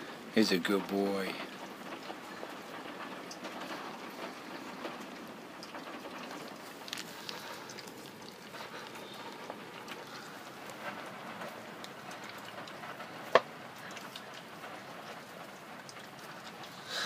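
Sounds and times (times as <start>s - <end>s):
animals chewing and licking: 0.1s - 17.0s.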